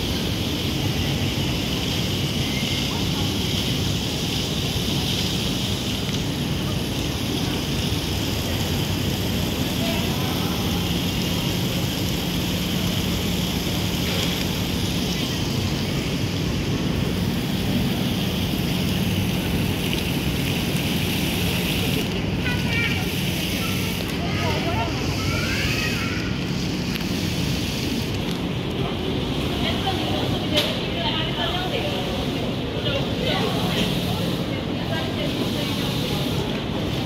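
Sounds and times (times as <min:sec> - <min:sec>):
even hiss: 0:00.0 - 0:37.0
faint voices of passers-by: 0:00.0 - 0:37.0.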